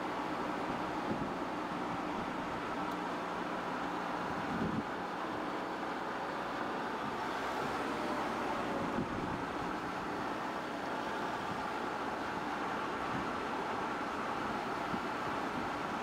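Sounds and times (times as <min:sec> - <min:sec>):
car engine and tyre noise: 0:00.0 - 0:16.0
wind: 0:00.0 - 0:16.0.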